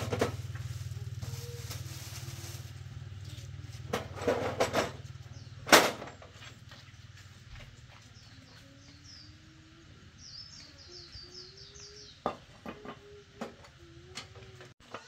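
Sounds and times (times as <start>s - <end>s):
small engine humming: 0.0s - 12.1s.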